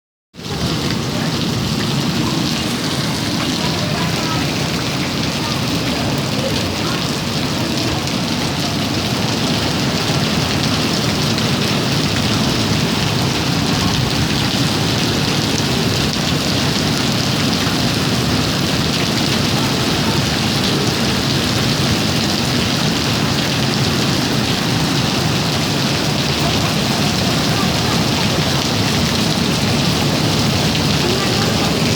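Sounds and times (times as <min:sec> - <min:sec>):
heavy rain and hail pelting: 0:00.4 - 0:31.9.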